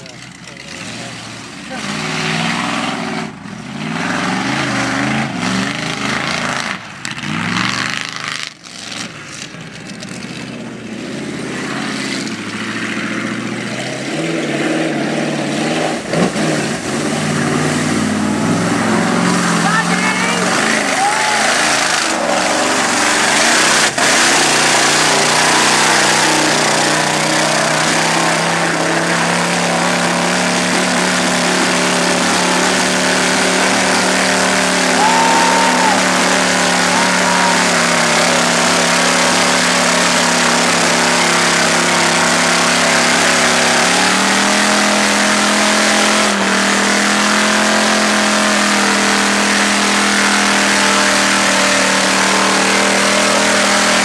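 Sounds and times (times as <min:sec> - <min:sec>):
truck churning through mud: 0:00.0 - 0:54.0
truck engine at high revs: 0:00.0 - 0:54.0.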